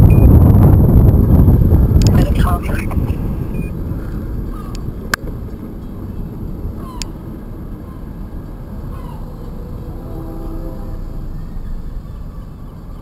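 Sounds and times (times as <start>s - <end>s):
bicycle tyre rumble: 0.0s - 12.9s
wind rushing over microphone: 0.0s - 13.0s.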